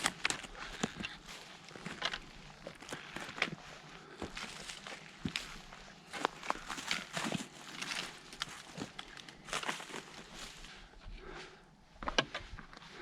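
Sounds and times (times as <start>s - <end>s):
footsteps crunching on rough ground: 0.0s - 13.0s.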